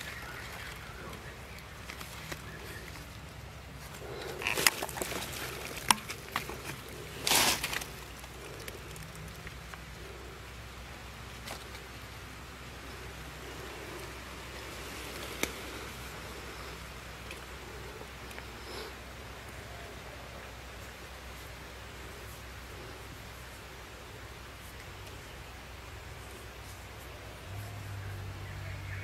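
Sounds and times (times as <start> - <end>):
dry leaves and grass rustling: 0.0 - 29.0
faint outdoor background: 0.0 - 29.0.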